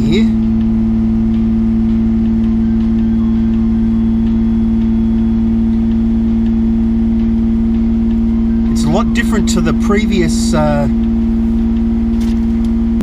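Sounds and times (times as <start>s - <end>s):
car engine idling fast: 0.0s - 13.0s.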